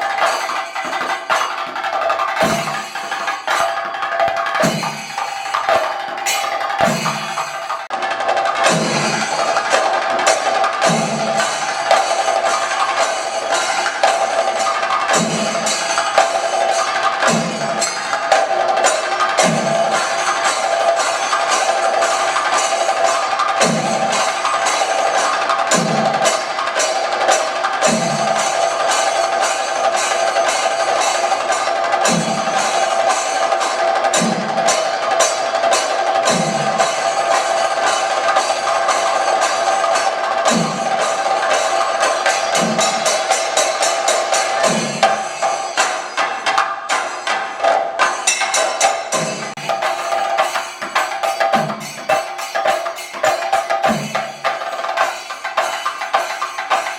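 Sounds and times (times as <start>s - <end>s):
cymbals ringing: 0.0s - 56.9s
rapid drum stick strokes: 0.0s - 56.9s.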